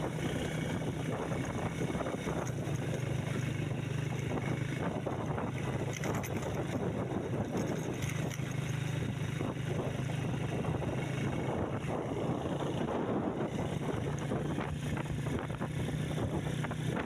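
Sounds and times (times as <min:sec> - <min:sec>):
vehicle engine droning: 0:00.0 - 0:17.0
wind rushing over microphone: 0:00.0 - 0:17.0.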